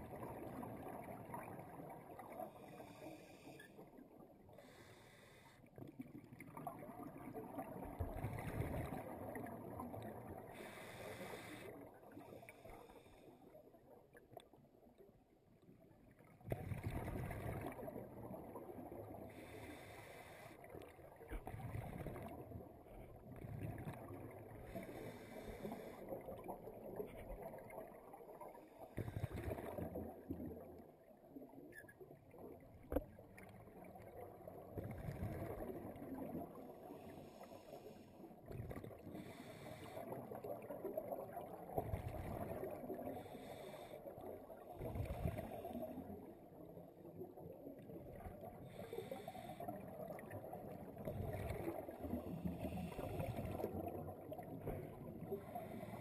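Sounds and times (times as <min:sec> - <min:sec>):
underwater exhaust bubbles: 0:00.0 - 0:15.1, 0:16.0 - 0:56.0.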